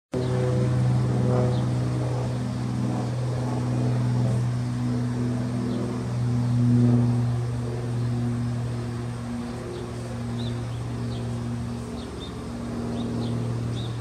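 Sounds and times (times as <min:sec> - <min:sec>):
locomotive engine droning: 0:00.2 - 0:14.0.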